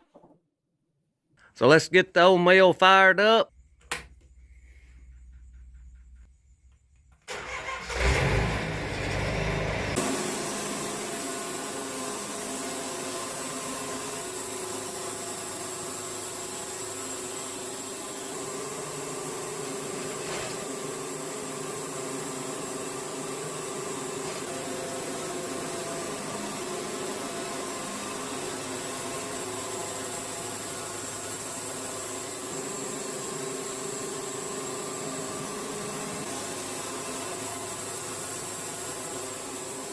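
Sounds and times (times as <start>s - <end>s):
sawmill engine cranking and running: 7.3s - 39.9s.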